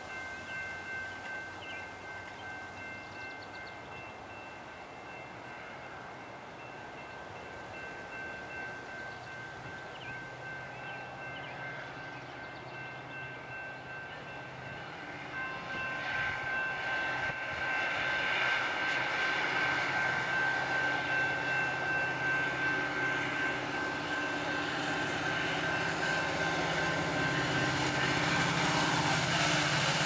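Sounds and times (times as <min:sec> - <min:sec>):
diesel locomotive hum: 0:00.0 - 0:30.0.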